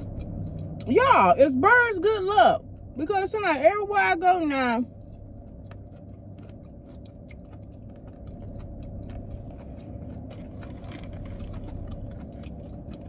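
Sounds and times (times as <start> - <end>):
chewing and crunching food: 0.0 - 13.0
low car cabin hum: 0.0 - 13.0.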